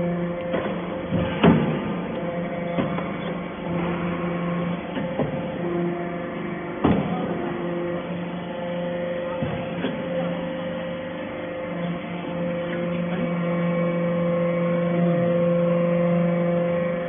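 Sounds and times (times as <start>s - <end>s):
baler mechanical hum: 0.0s - 17.0s.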